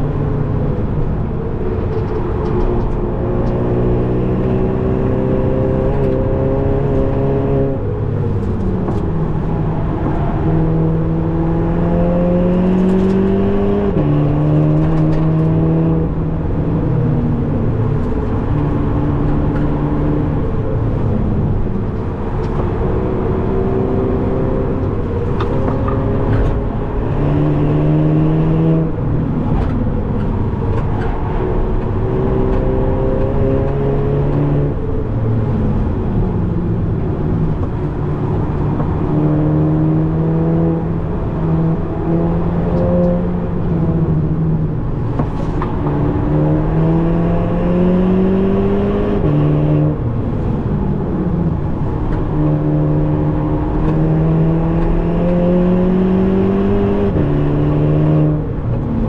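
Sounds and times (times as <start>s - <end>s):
tyre and road noise: 0.0s - 59.0s
car engine revving: 1.9s - 59.0s.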